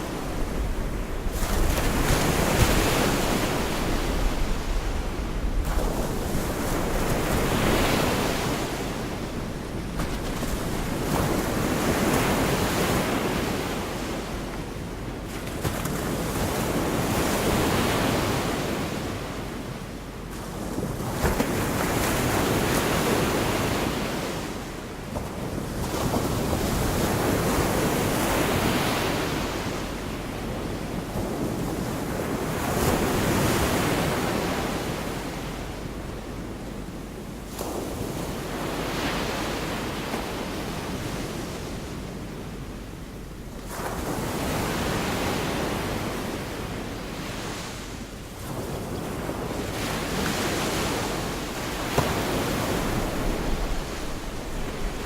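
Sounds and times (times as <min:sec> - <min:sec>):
waves washing ashore: 0:00.0 - 0:55.0
wind noise on microphone: 0:00.0 - 0:55.0.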